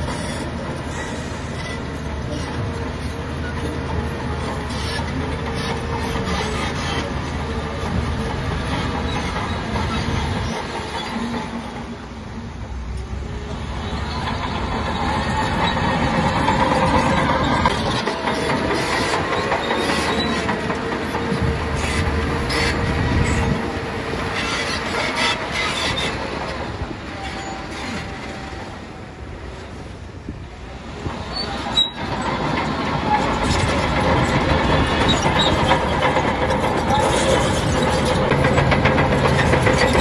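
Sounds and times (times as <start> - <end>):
bulldozer diesel engine running: 0.0 - 40.0
steel tracks clanking and squealing: 0.0 - 40.0.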